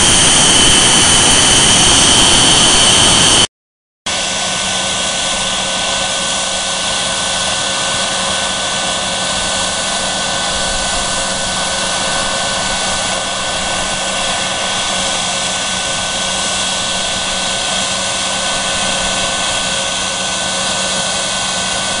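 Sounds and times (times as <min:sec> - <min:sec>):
jet engine rushing and whining: 0:00.0 - 0:03.5, 0:04.1 - 0:22.0.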